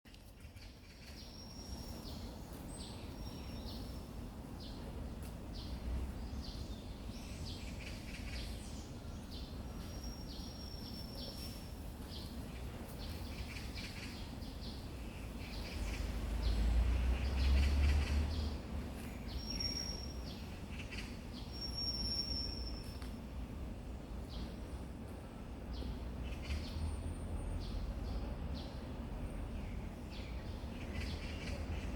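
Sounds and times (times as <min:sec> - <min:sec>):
songbirds chirping: 0:00.1 - 0:31.9.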